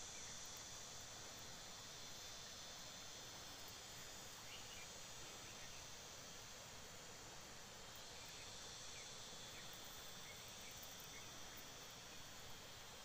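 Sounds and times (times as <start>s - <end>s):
faint steady hiss: 0.0s - 13.0s
insects droning: 0.0s - 13.0s.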